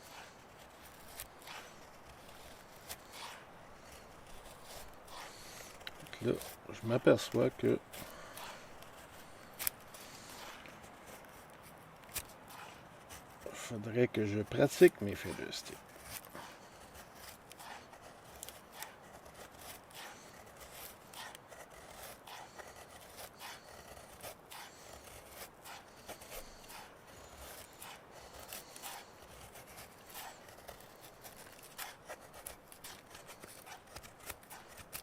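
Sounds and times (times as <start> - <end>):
knife shaving wood: 0.0 - 35.0.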